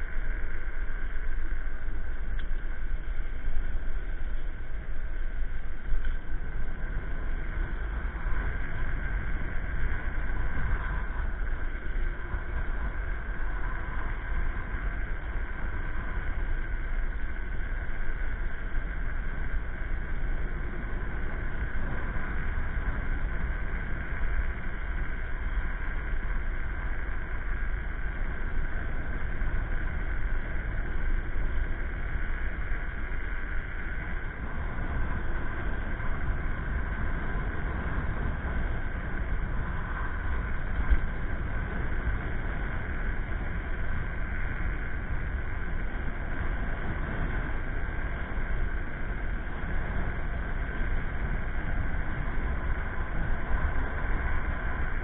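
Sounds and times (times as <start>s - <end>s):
tyre and road noise: 0.0s - 55.0s
wind buffeting microphone: 0.0s - 55.0s.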